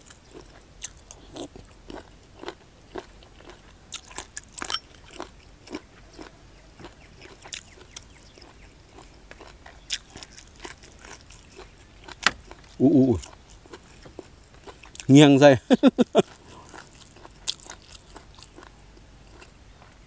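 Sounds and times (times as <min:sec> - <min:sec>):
crunchy chewing of mushrooms: 0:00.0 - 0:20.0.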